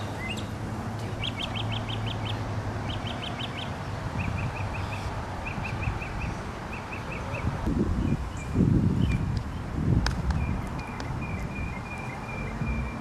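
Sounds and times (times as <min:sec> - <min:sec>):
songbird singing high notes: 0:00.0 - 0:09.7, 0:10.4 - 0:13.0
outdoor background hiss: 0:00.0 - 0:13.0.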